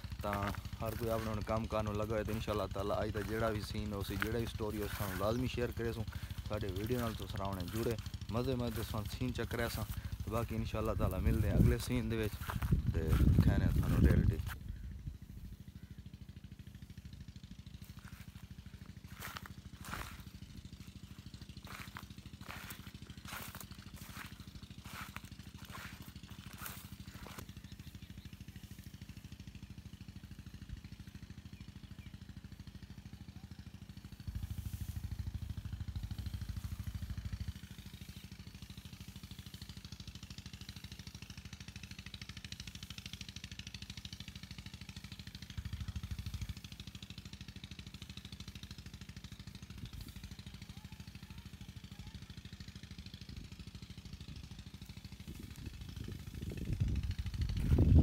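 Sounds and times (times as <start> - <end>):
engine rumbling: 0.0 - 58.0.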